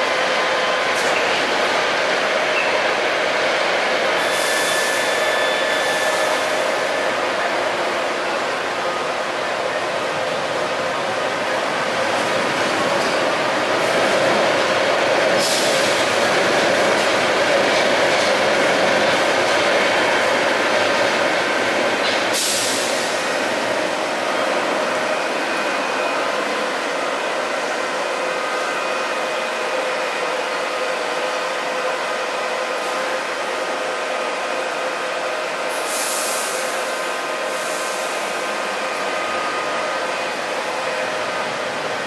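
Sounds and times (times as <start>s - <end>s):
train running noise: 0.0s - 42.0s.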